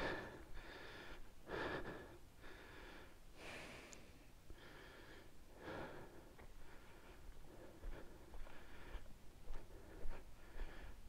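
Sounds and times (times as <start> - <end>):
person breathing heavily: 0.0 - 11.0.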